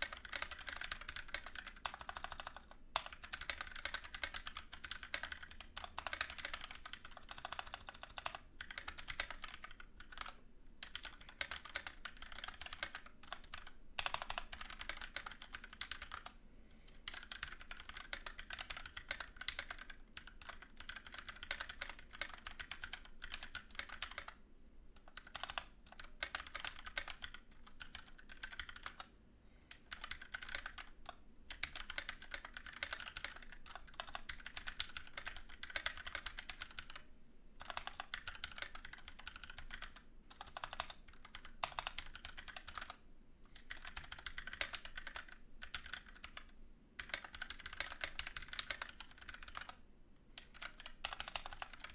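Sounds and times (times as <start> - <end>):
fast typing on mechanical keyboard: 0.0 - 16.4, 17.0 - 24.4, 25.0 - 29.1, 29.7 - 43.0, 43.6 - 49.8, 50.4 - 51.9.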